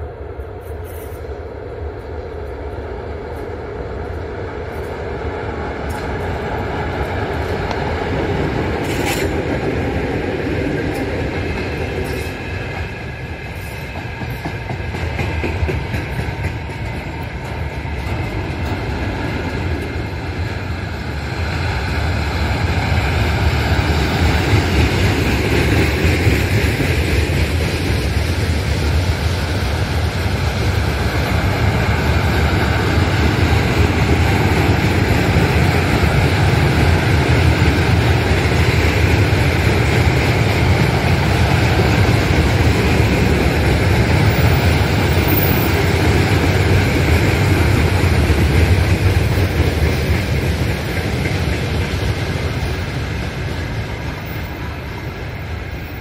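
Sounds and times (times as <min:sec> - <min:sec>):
diesel locomotive engine: 0:00.0 - 0:56.0
freight wagons rumbling on rails: 0:03.3 - 0:56.0.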